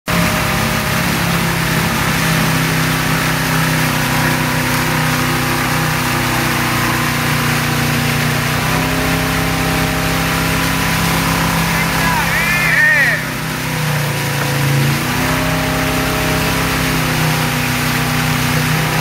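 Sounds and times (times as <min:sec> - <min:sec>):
churning wake water: 0:00.1 - 0:19.0
motorboat engine running: 0:00.1 - 0:19.0.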